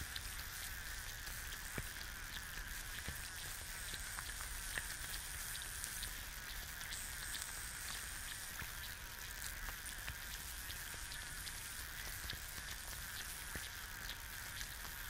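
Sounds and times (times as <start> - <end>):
egg sizzling in a pan: 0.0 - 15.0
small pops and crackles: 0.0 - 15.0.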